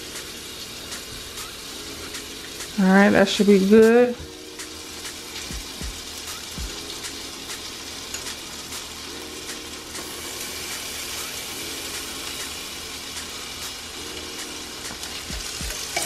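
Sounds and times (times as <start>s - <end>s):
butter sizzling in a skillet: 0.0s - 16.0s.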